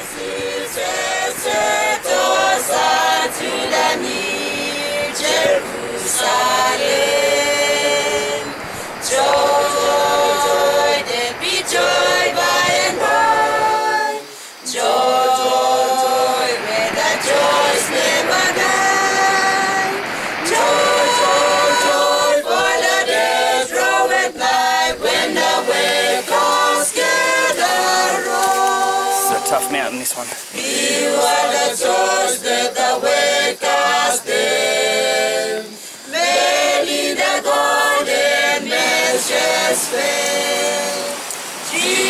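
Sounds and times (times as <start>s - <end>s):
unaccompanied choir singing: 0.0s - 42.0s.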